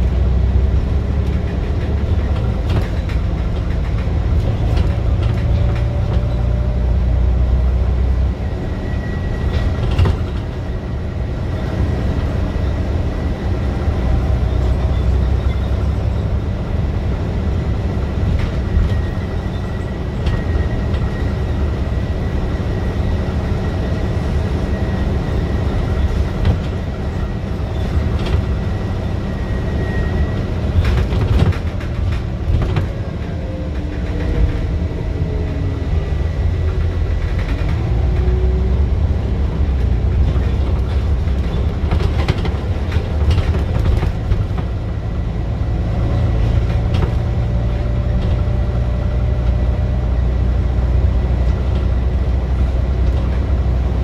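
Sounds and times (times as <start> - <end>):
bus engine working hard: 0.0 - 54.0.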